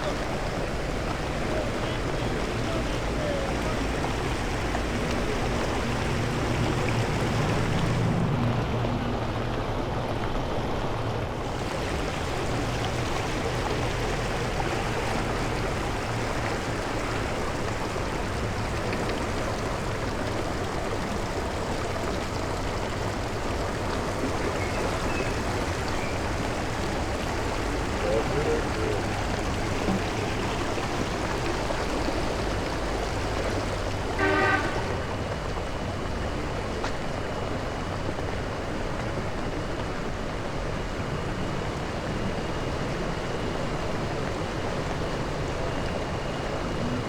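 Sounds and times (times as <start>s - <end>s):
floodwater rushing: 0.0s - 47.0s.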